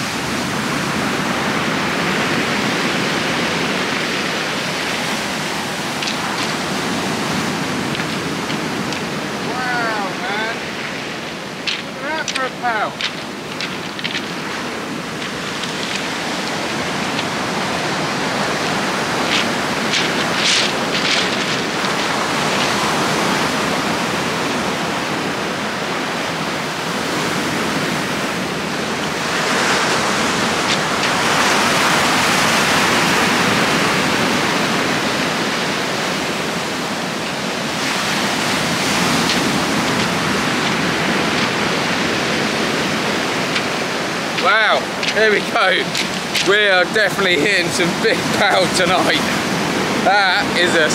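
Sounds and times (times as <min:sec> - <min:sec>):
waves breaking on shingle: 0:02.2 - 0:24.8, 0:28.9 - 0:50.9.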